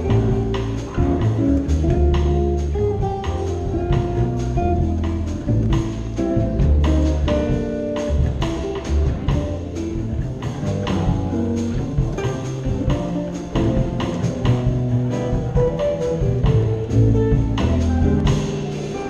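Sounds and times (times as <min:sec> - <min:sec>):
drum kit: 0:00.0 - 0:19.0
electric guitar picking tune: 0:00.0 - 0:19.0
upright double bass: 0:00.0 - 0:19.0.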